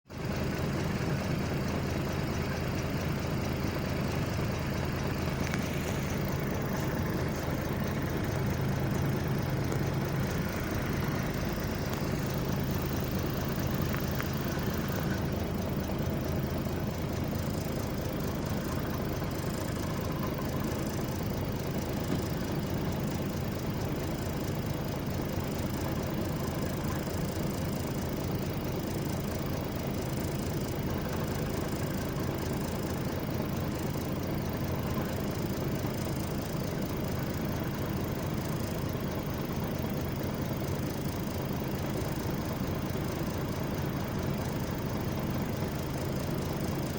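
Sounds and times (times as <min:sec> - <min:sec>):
heavy machinery engine running: 0:00.1 - 0:46.9.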